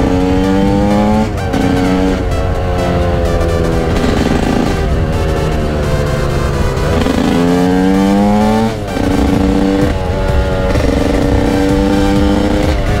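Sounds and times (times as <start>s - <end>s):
two-stroke engine at full throttle: 0.0s - 13.0s.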